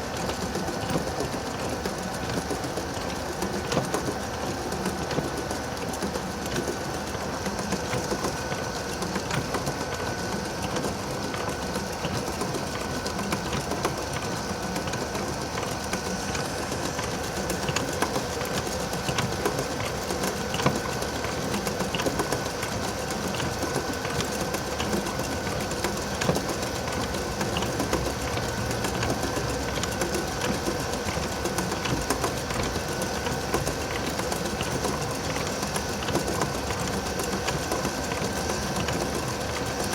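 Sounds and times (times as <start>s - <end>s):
washing machine clattering: 0.0s - 39.9s.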